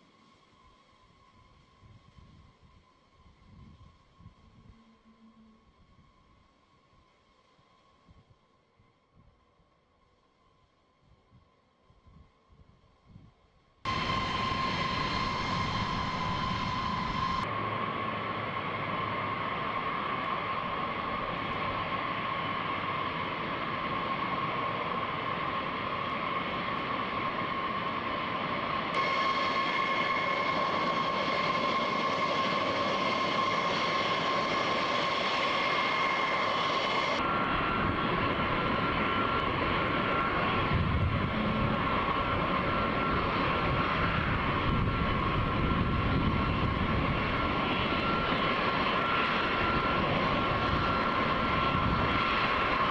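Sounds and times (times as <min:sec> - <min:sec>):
aircraft engines with high whine: 0:00.0 - 0:52.9.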